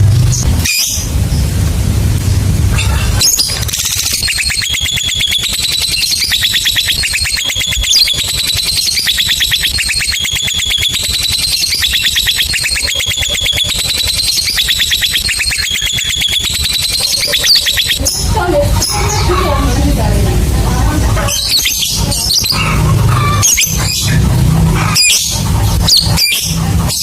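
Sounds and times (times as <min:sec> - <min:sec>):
lovebird chattering trill: 0:02.7 - 0:27.0.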